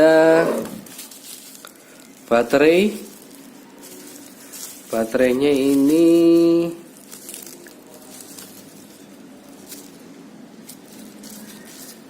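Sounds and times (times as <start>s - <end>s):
packaging rustling: 0.6s - 12.0s
light clicks of packaging: 0.8s - 2.3s, 3.0s - 12.0s.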